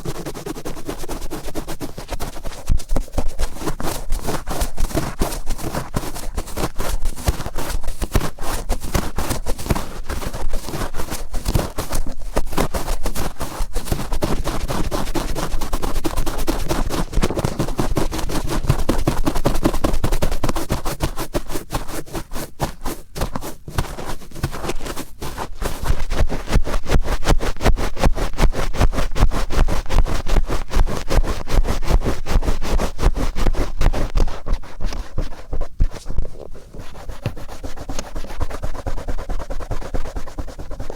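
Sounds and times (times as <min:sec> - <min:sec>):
cotton swab scratching in ear: 0:00.0 - 0:40.9.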